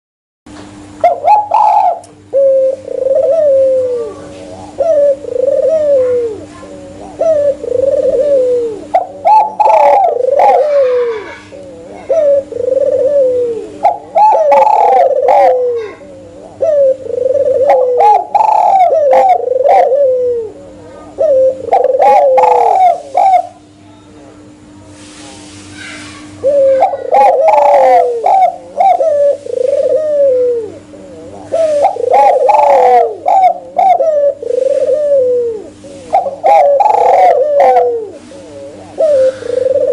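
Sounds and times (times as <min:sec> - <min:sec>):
constant low hum: 0:00.5 - 0:39.9
doves cooing: 0:00.8 - 0:23.8, 0:25.6 - 0:39.9.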